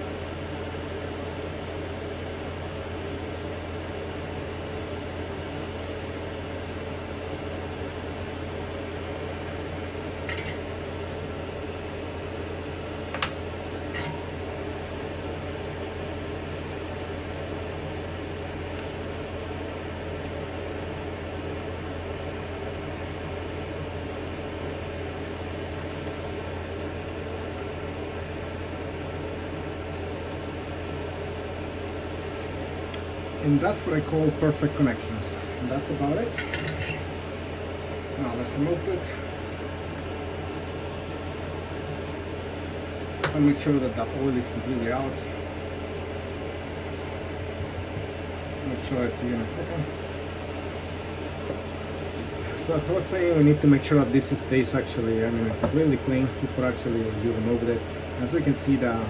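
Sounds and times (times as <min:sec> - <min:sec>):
fan-like hum with hiss: 0:00.0 - 0:59.0.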